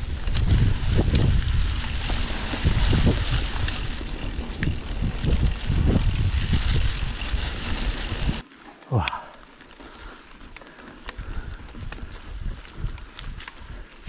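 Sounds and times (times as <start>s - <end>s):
wind buffeting microphone: 0.0s - 8.4s, 11.2s - 14.0s.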